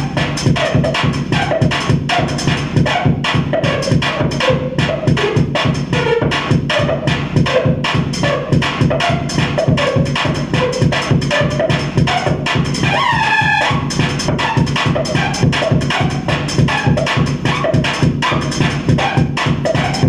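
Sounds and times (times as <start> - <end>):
distorted electronic noise music: 0.0 - 20.0.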